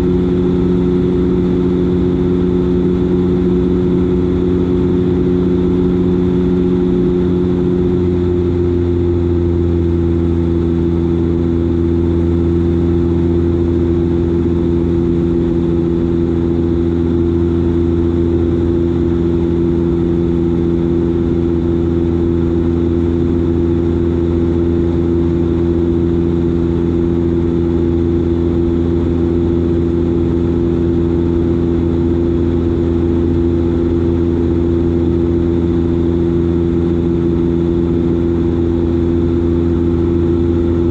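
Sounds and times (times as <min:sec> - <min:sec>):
propeller plane droning in flight: 0:00.0 - 0:40.9.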